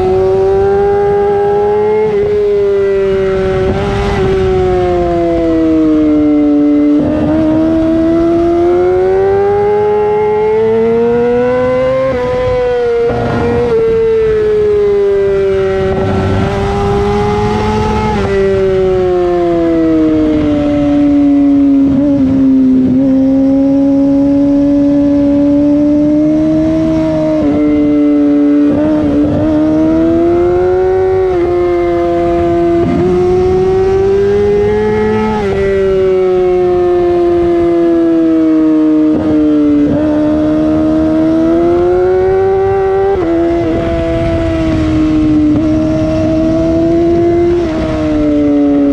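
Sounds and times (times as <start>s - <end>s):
motorcycle engine revving high: 0.0s - 48.9s.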